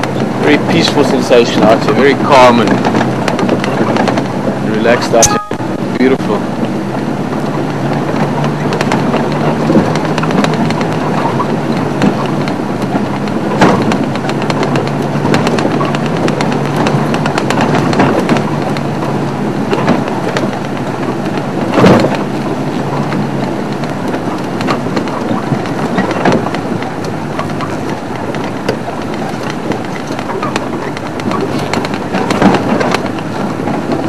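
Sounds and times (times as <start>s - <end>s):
vehicle body rattling: 0.0s - 34.0s
vehicle engine running: 0.0s - 34.0s
vehicle hitting bumps: 0.0s - 34.0s.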